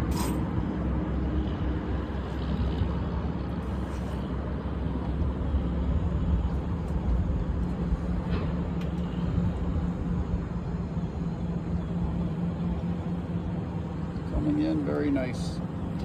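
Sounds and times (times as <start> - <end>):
crane engine rumbling: 0.0 - 16.0.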